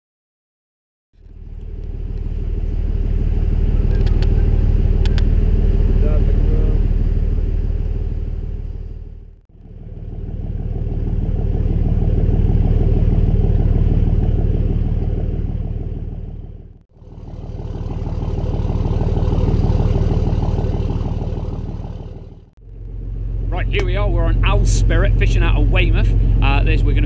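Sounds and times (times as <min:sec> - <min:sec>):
boat engine running: 0:01.2 - 0:27.0.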